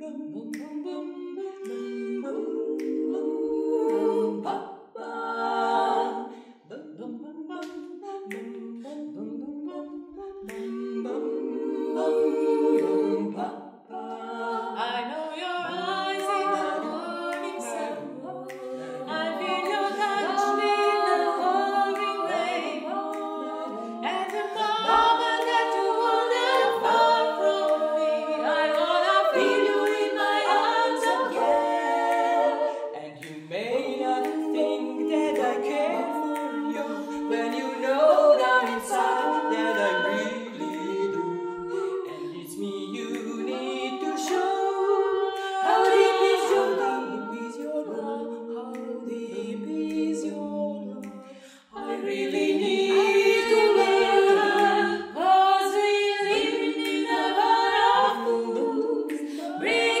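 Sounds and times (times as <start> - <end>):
women singing a cappella in harmony: 0.0 - 60.0.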